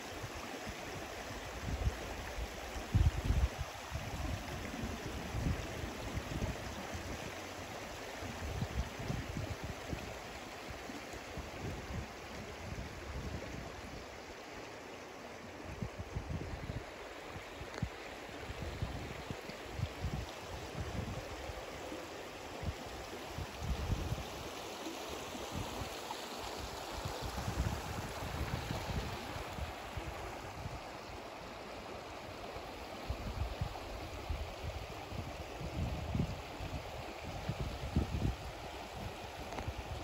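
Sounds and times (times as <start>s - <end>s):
river rushing over stones: 0.0s - 40.0s
wind rumbling on microphone: 0.3s - 14.2s, 15.6s - 22.0s, 22.6s - 24.5s, 26.5s - 31.2s, 33.0s - 40.0s.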